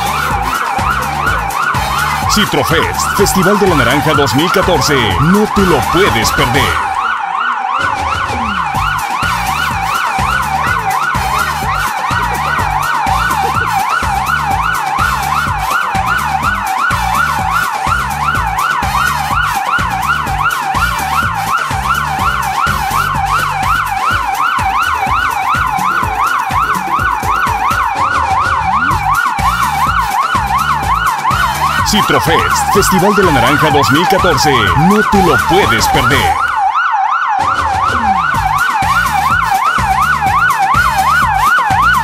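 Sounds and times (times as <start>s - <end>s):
rhythmic low beat: 0.0s - 7.2s, 7.8s - 42.0s
siren yelping: 0.0s - 42.0s.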